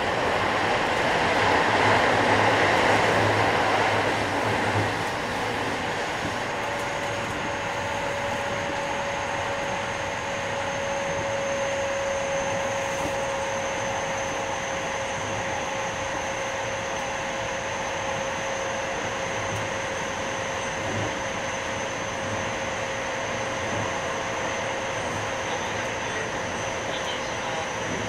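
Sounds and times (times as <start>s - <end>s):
wheels rumbling on rail: 0.0s - 11.8s, 12.4s - 28.0s
steady train whine: 0.0s - 28.0s.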